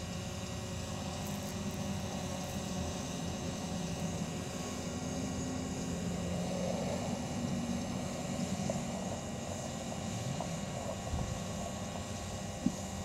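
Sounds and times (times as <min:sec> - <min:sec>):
quadcopter propeller hum: 0:00.0 - 0:13.0.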